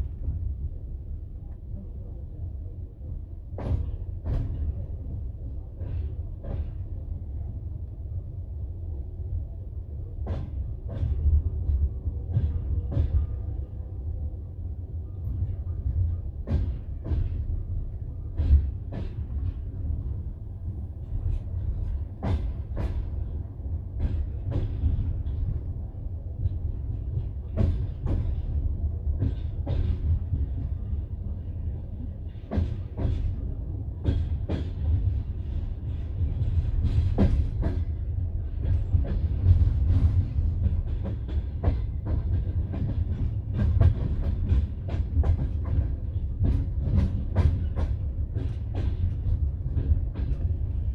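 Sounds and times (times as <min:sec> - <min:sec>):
train coach rumbling on rails: 0:00.0 - 0:50.9.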